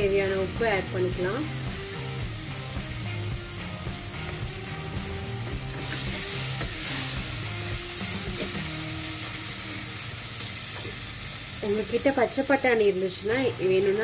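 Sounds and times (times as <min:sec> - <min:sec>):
masala sizzling in oil: 0:00.0 - 0:14.0.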